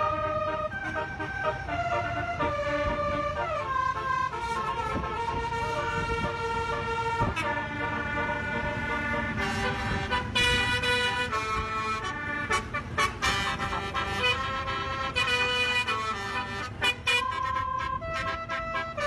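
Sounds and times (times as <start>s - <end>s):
multi-tone horn playing a tune: 0.0s - 19.0s.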